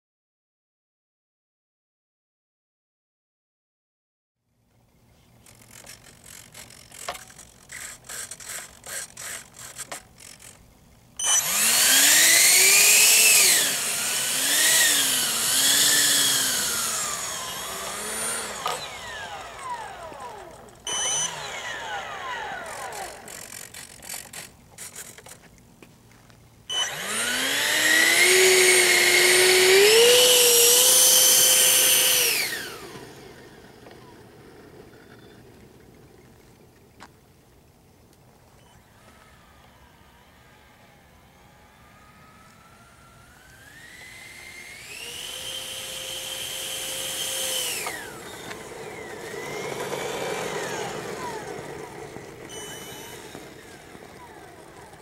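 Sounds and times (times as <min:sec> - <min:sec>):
electric ducted fan whine: 0:04.6 - 0:55.0.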